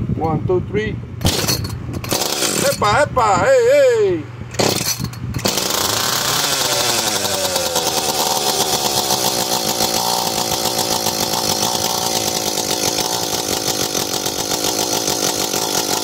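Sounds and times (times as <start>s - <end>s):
chainsaw engine running: 1.2s - 2.9s, 4.6s - 16.0s.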